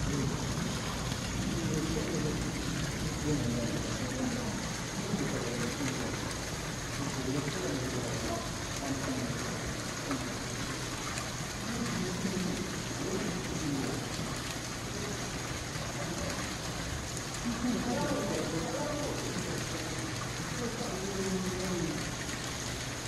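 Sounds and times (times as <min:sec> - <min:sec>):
water splashing into a pond: 0:00.0 - 0:23.0.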